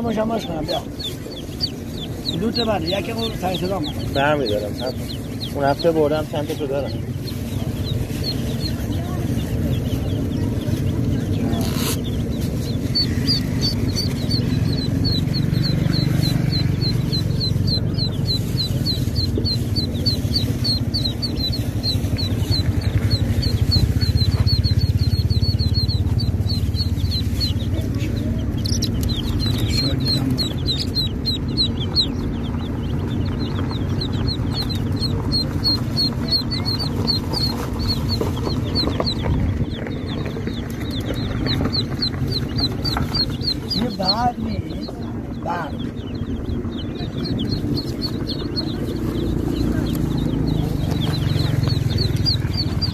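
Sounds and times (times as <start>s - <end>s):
baby chicks peeping: 0.0s - 52.9s
low rumble: 0.0s - 52.9s.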